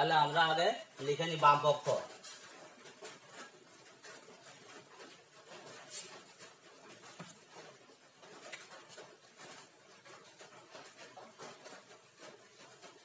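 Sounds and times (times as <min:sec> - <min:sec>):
rubbing on a whiteboard: 0:00.9 - 0:13.0.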